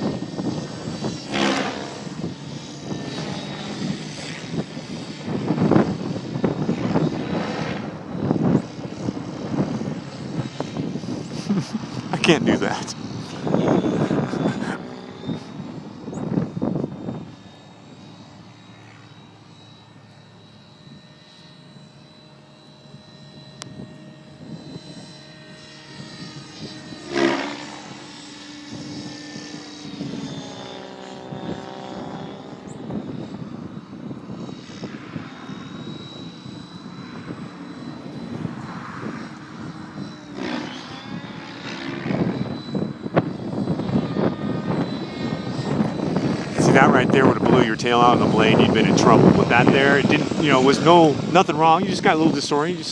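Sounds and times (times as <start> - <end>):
model helicopter motor whine: 0.0 - 52.9
rotor blade noise: 0.0 - 52.9.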